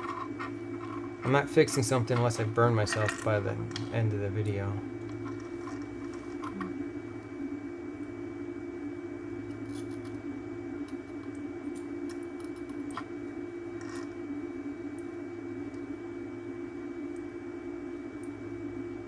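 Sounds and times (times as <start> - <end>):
faint high whine: 0.0 - 19.0
low electrical hum: 0.0 - 19.0.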